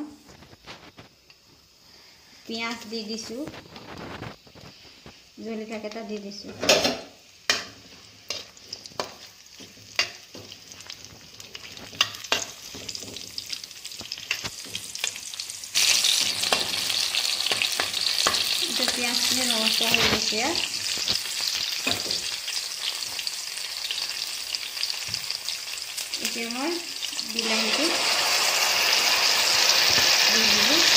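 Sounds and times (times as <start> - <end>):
food sizzling in hot oil: 0.1 - 30.9.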